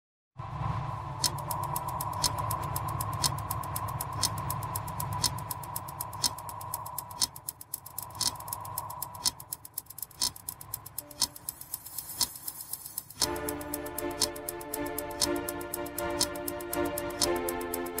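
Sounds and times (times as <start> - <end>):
low drone: 0.4 - 18.0
clock-like ticking: 0.6 - 18.0.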